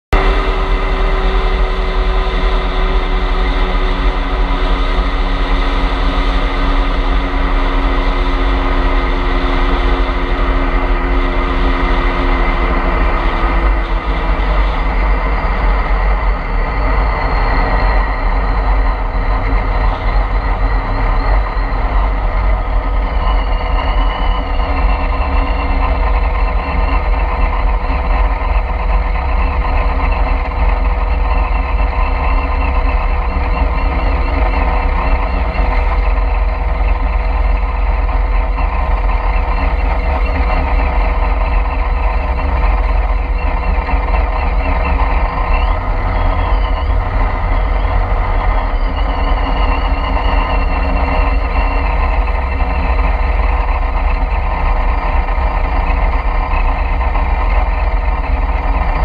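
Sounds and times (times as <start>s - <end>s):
car engine deep rumble: 0.1s - 59.0s.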